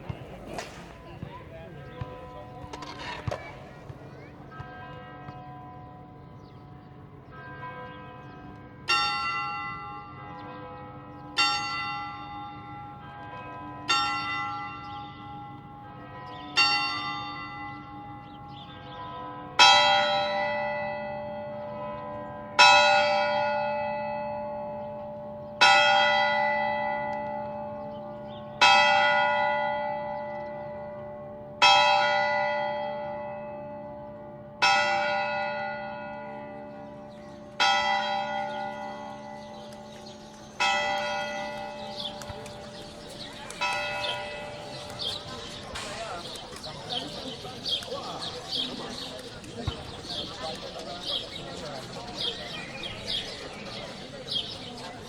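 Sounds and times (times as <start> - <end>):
church bell tolling: 0.0 - 49.2
deeper church bell tolling: 1.8 - 46.0.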